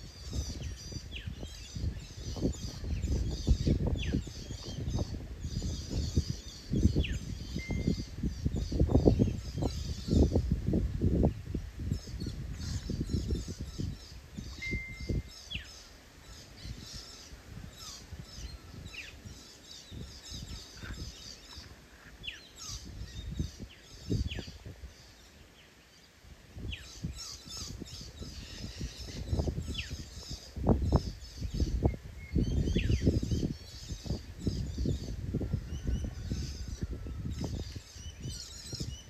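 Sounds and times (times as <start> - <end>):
birds chirping: 0.0 - 10.6, 11.2 - 39.0
wind buffeting microphone: 0.0 - 25.6, 26.3 - 39.0.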